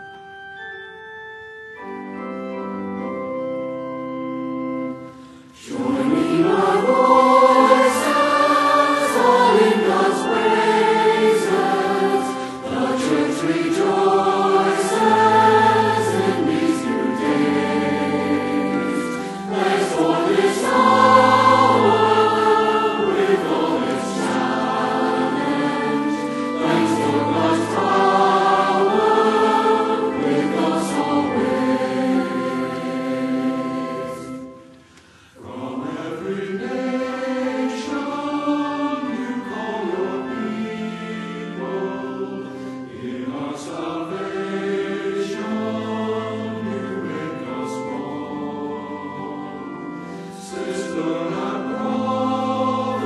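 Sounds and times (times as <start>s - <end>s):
organ chords: 0.0s - 53.0s
choir singing: 4.9s - 53.0s.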